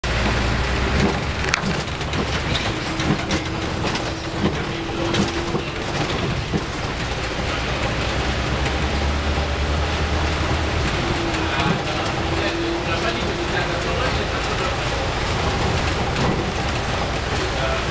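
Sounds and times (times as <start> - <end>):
low engine rumble: 0.0 - 17.9
clicks and rattles: 0.9 - 8.9, 10.3 - 17.9.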